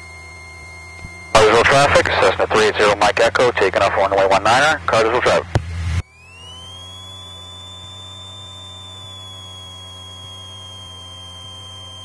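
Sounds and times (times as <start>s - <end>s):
high electrical whine: 0.0s - 12.0s
low hum: 0.0s - 12.0s.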